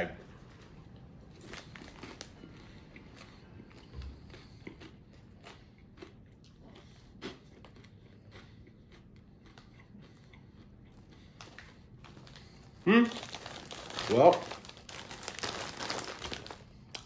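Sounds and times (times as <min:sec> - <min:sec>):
popcorn crunching: 0:00.6 - 0:17.0.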